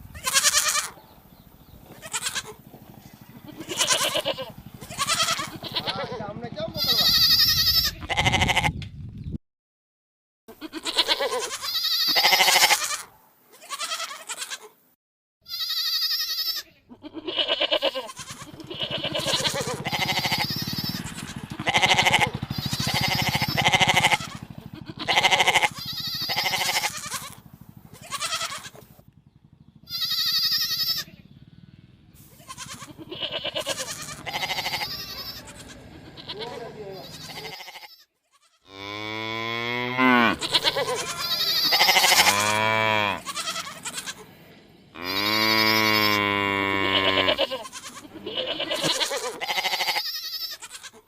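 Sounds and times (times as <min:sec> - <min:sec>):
sheep bleating: 0:00.0 - 0:01.0, 0:01.9 - 0:02.6, 0:03.4 - 0:08.7, 0:10.5 - 0:14.7, 0:15.4 - 0:29.0, 0:29.8 - 0:31.3, 0:32.2 - 0:51.0.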